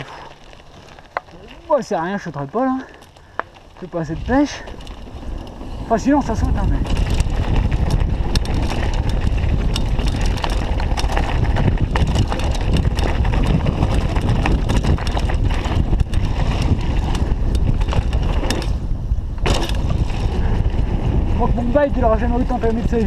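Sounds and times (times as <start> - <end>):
bike rattling over rough ground: 0.0 - 23.0
bike tyre noise: 0.0 - 23.0
wind rushing on microphone: 3.9 - 23.0.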